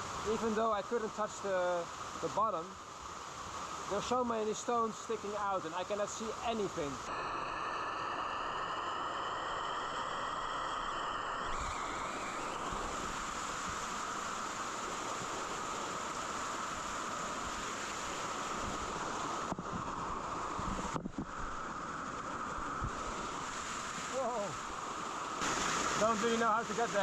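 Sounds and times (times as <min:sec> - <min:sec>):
waterfall rushing into pool: 0:00.0 - 0:27.0.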